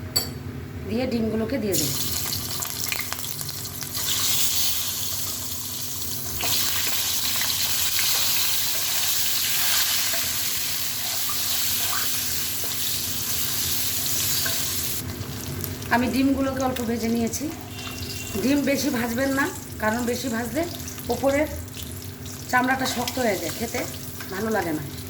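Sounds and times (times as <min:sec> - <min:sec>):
eggs sizzling in hot oil: 0:01.8 - 0:25.0.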